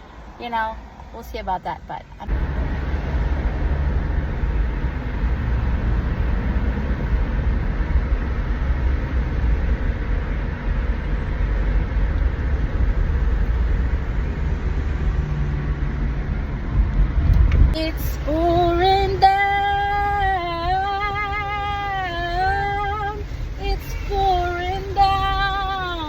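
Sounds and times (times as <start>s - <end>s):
car driving road noise: 0.0s - 26.0s.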